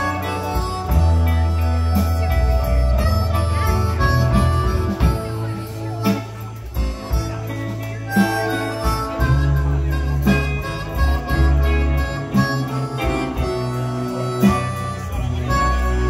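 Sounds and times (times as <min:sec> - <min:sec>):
blues band playing: 0:00.0 - 0:16.0
drum accents: 0:00.0 - 0:16.0
electric guitar: 0:00.0 - 0:16.0
harmonica: 0:00.0 - 0:16.0.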